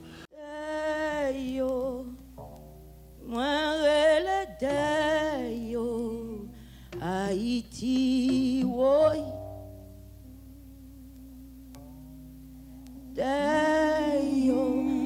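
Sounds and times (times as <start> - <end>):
woman singing with vibrato: 0.0 - 2.4, 3.2 - 11.8, 13.0 - 15.0
double bass: 1.2 - 15.0.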